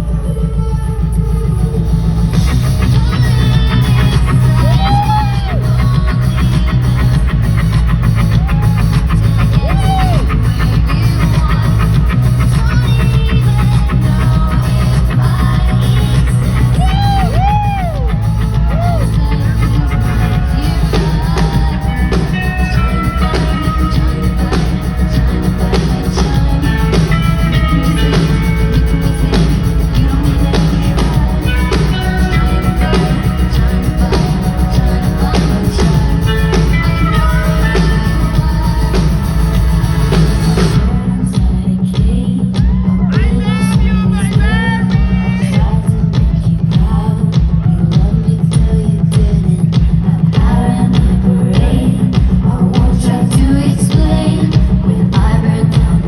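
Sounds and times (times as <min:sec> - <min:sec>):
woman singing: 0:00.0 - 0:56.0
pop-rock band playing: 0:01.8 - 0:56.0.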